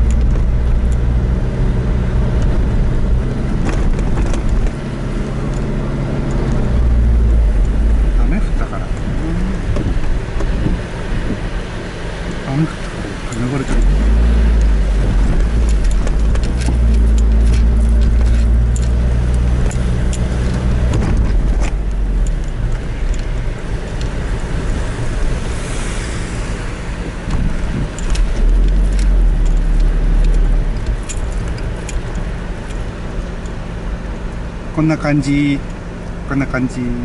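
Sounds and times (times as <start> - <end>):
car engine and tyre rumble: 0.0 - 37.0.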